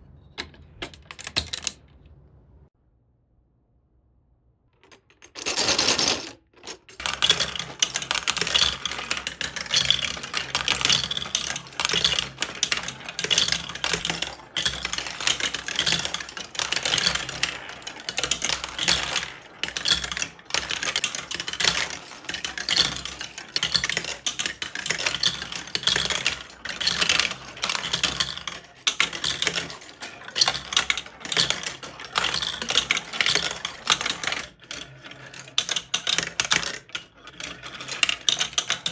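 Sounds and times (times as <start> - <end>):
marbles rattling through plastic run: 4.8 - 38.9.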